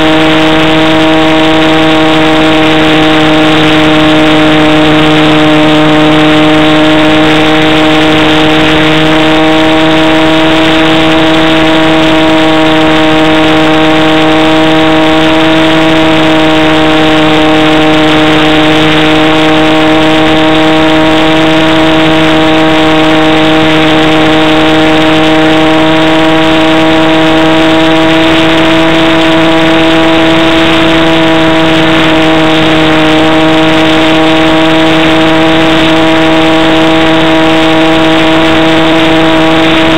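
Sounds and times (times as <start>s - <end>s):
model airplane motor and propeller: 0.0s - 39.9s.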